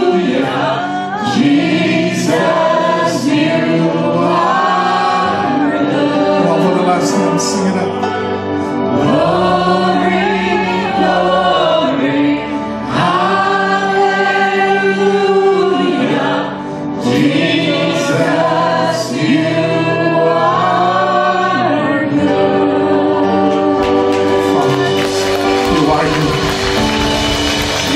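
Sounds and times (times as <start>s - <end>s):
band accompaniment with guitar: 0.0s - 19.6s, 20.4s - 27.9s
group singing into microphones: 0.0s - 27.9s.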